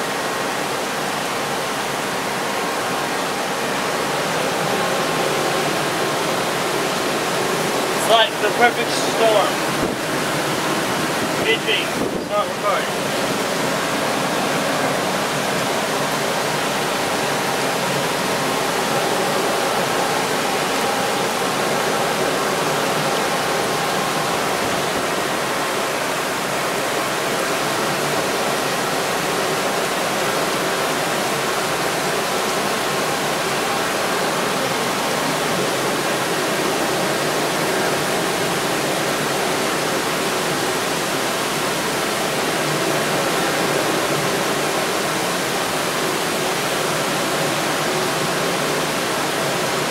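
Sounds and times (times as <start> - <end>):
rain pouring: 0.0 - 49.9.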